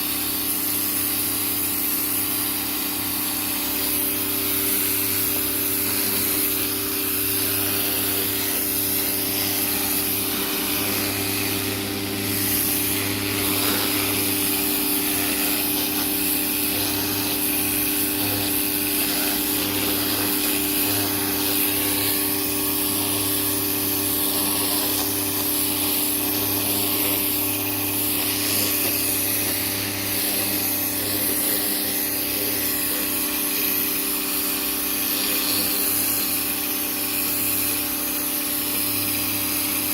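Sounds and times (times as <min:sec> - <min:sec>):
pressure washer motor humming: 0:00.0 - 0:39.9
water jet hissing: 0:00.0 - 0:39.9.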